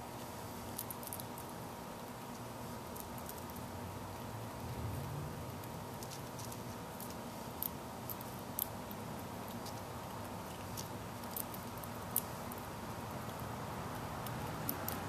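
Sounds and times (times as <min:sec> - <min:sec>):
steady background hiss: 0:00.0 - 0:15.0
squirrel cracking seeds: 0:00.6 - 0:15.0.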